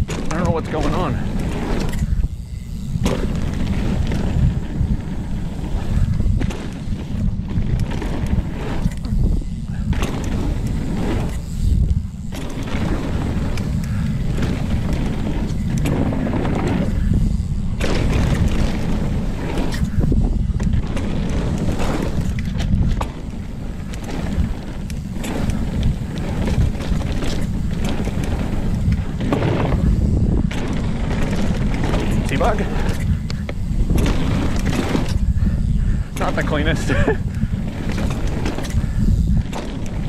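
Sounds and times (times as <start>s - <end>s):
bike knocks and rattles: 0.0s - 40.0s
wind buffeting microphone: 0.0s - 40.0s.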